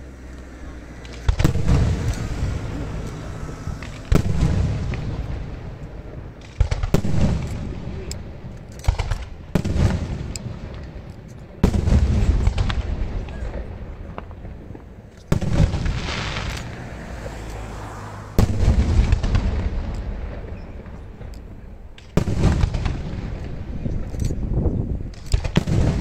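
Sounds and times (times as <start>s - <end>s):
rolling rumble: 0.0s - 26.0s.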